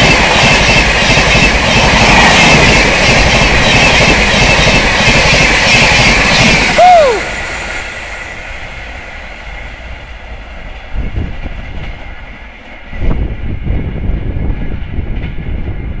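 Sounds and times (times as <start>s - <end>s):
passing train rail noise: 0.0s - 16.0s.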